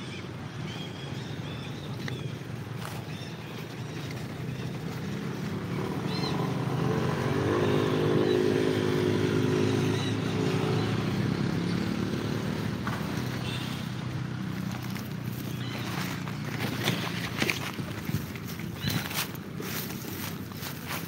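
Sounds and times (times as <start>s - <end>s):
passing vehicle engine: 3.8s - 21.0s.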